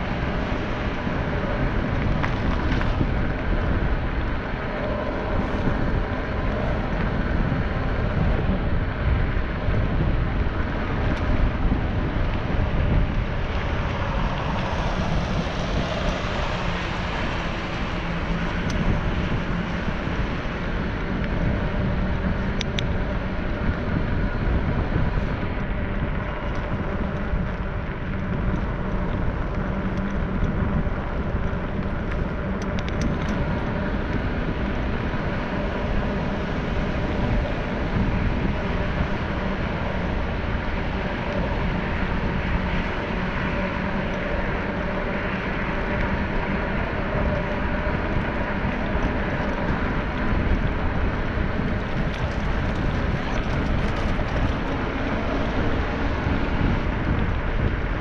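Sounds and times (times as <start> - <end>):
wheels on asphalt: 0.0 - 58.0
wind on microphone: 0.0 - 58.0.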